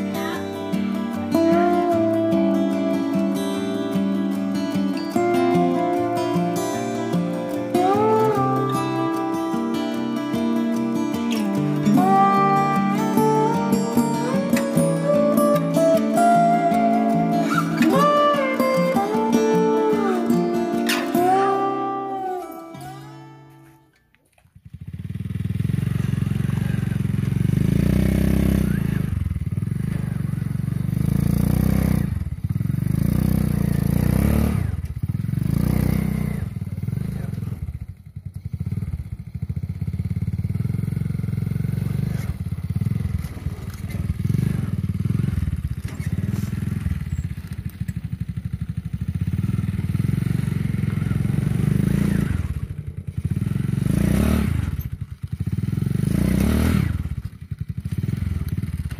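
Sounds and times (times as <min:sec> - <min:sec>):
motorcycle engine revving: 0:00.0 - 0:23.6, 0:24.4 - 0:58.9.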